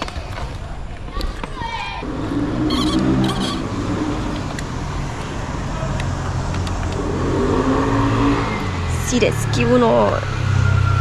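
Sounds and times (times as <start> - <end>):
vehicle engine humming: 2.0 - 11.0.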